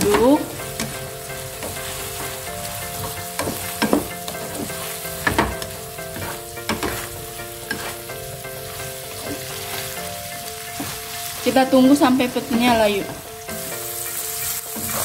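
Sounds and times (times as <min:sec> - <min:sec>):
spatula scraping and knocking pan: 0:00.0 - 0:11.5, 0:12.2 - 0:15.0
food sizzling in a wok: 0:00.0 - 0:15.0.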